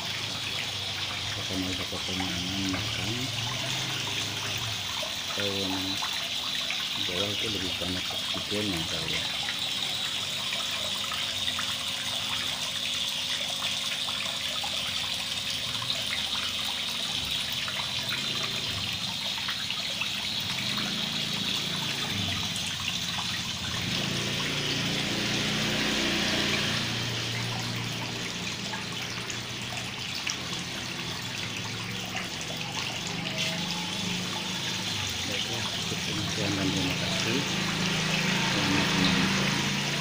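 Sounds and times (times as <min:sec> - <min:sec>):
water splashing into pond: 0:00.0 - 0:40.0.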